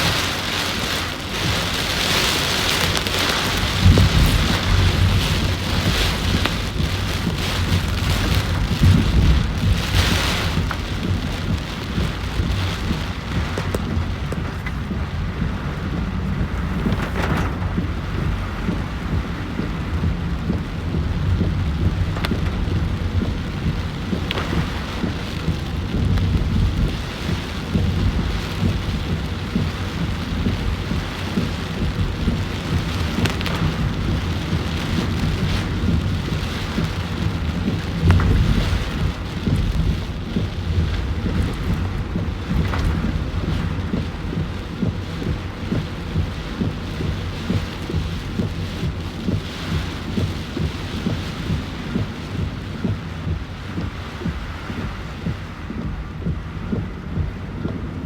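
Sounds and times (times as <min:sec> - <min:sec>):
heavy rain falling: 0:00.0 - 0:58.0
low rumble: 0:00.0 - 0:58.0.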